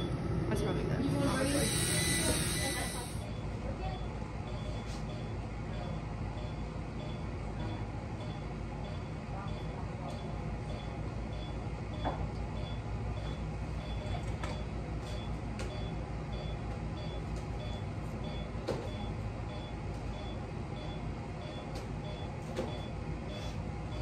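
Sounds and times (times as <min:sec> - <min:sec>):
low machine hum: 0:00.0 - 0:24.0
patient monitor beeping: 0:00.0 - 0:24.0.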